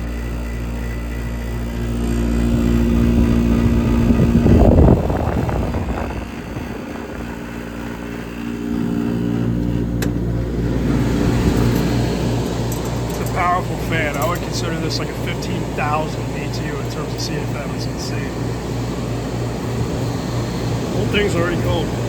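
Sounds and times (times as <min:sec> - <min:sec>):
air conditioner hum: 0:00.0 - 0:22.0.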